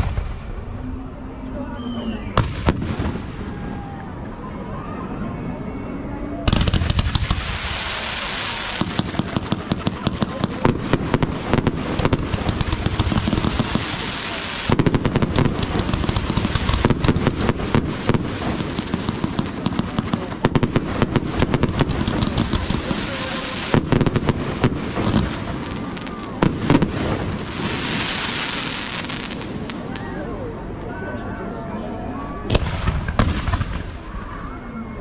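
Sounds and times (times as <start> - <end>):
fireworks bangs and crackles: 0.0 - 1.3, 2.0 - 4.5, 6.4 - 30.8, 32.4 - 34.4.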